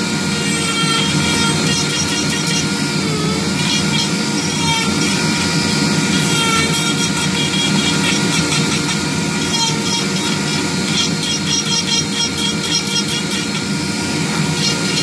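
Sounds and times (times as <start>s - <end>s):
rotary tool grinding wood: 0.0s - 15.0s.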